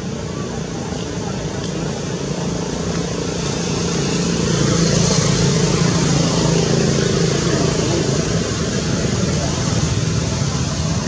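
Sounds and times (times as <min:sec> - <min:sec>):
motor engine running: 0:00.0 - 0:11.0.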